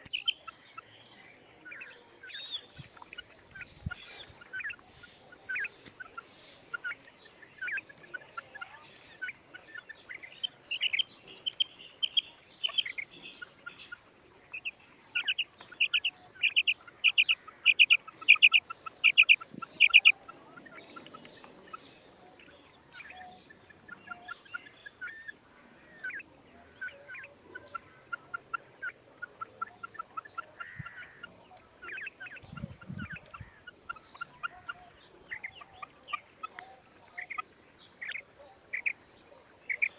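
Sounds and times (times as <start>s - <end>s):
quail calling: 1.6s - 39.0s, 39.7s - 39.9s.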